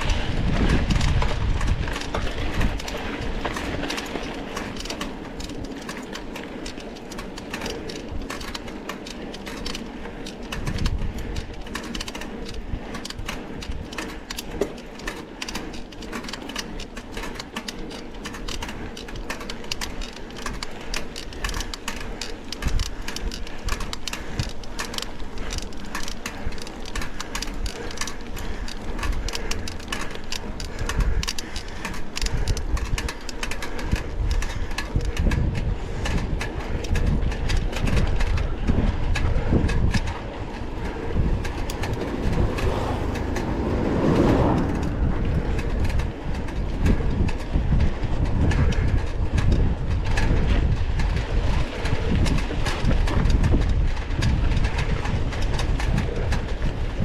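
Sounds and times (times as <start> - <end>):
bike rattling on dirt trail: 0.0 - 57.0
wind buffeting microphone: 0.0 - 57.0.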